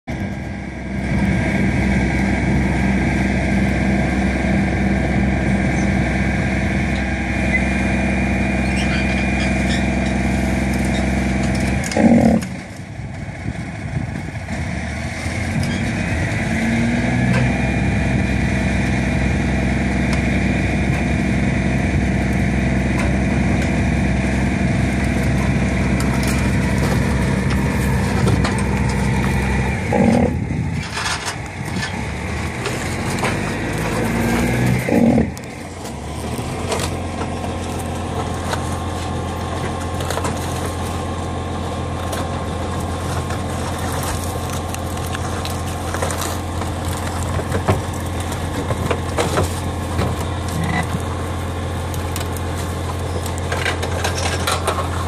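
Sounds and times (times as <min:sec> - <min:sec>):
tow truck engine idling: 0:00.1 - 0:55.0
winch cable dragging a car: 0:00.1 - 0:55.0.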